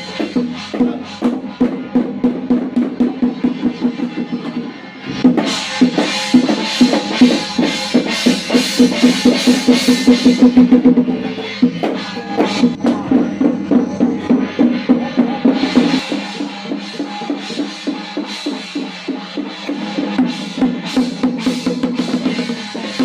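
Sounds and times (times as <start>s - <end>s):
fast even drumming: 0.0s - 23.0s.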